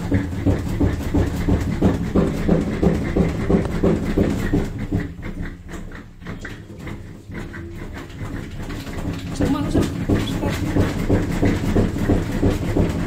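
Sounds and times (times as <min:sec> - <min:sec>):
washing machine rhythmic pulsing: 0:00.0 - 0:13.0.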